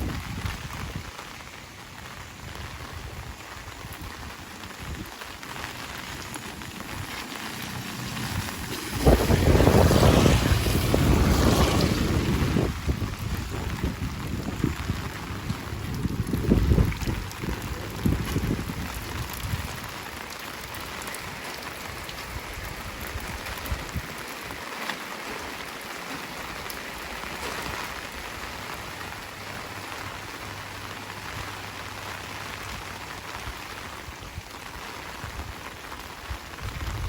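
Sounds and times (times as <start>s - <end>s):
heavy rain hiss: 0.0s - 37.0s.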